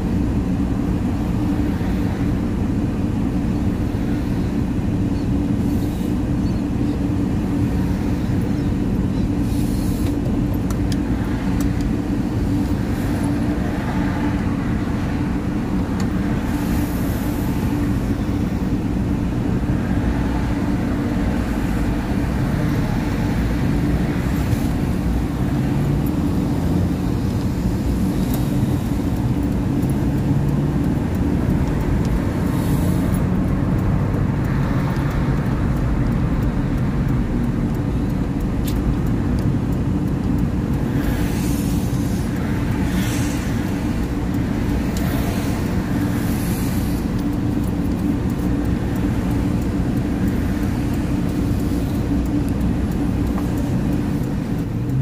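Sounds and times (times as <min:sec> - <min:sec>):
car engine and tyre rumble: 0:00.0 - 0:55.0
passing traffic whooshes: 0:00.0 - 0:55.0.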